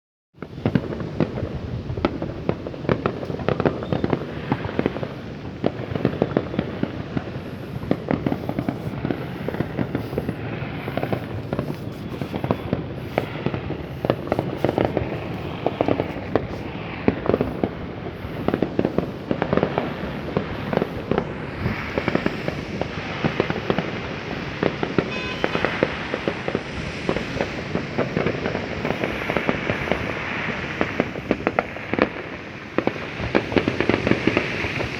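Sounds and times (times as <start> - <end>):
fireworks cracking and banging: 0.4 - 34.9.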